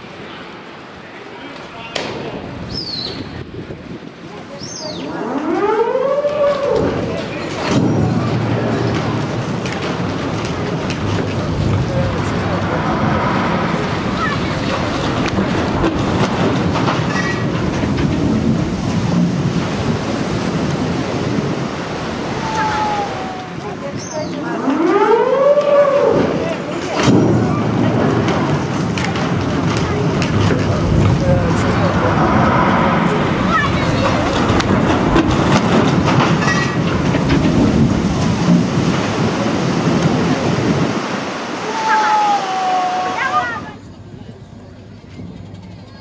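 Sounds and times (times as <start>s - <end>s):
water rushing and crashing: 0.0s - 43.9s
ship hull rumbling and scraping: 2.0s - 41.6s.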